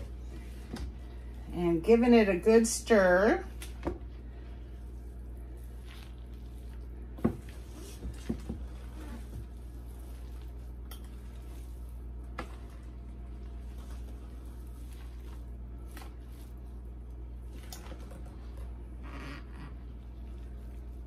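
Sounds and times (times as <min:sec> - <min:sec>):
steady low hum: 0:00.0 - 0:21.0
wooden spoon stirring noodles: 0:00.0 - 0:21.0.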